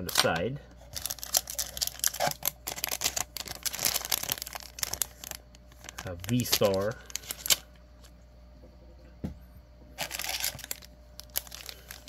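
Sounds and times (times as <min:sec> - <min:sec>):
plastic wrapping crinkling: 0:00.0 - 0:08.1, 0:10.0 - 0:12.0.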